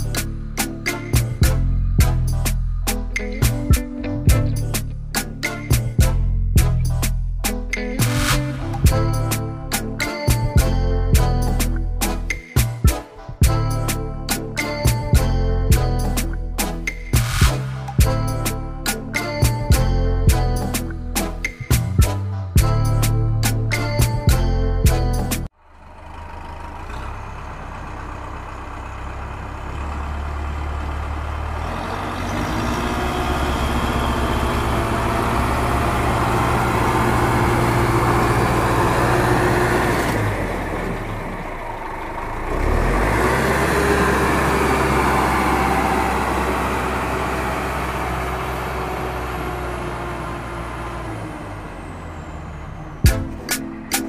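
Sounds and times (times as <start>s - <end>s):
heavy vehicle engine rumbling: 0.0s - 54.0s.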